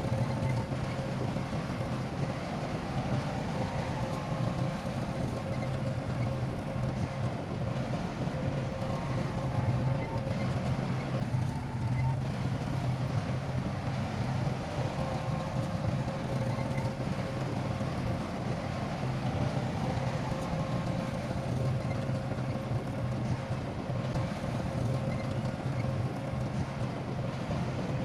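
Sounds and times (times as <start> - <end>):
faint steady whine: 0.0 - 28.0
heavy diesel engine droning: 0.0 - 28.0.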